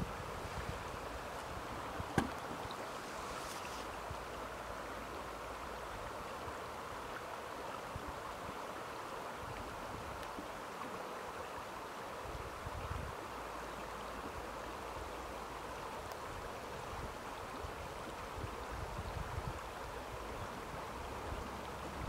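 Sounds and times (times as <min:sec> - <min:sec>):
river rippling over stones: 0:00.0 - 0:22.0.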